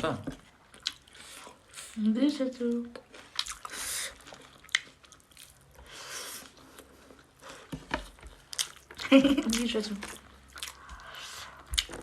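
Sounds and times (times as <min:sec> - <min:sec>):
people chewing: 0:00.0 - 0:02.0, 0:02.6 - 0:12.0.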